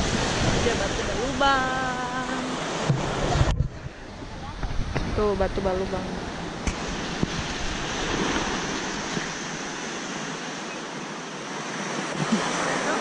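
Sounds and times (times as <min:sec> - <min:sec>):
wind rumbling on microphone: 0:00.0 - 0:10.5
sea waves washing ashore: 0:00.0 - 0:13.0.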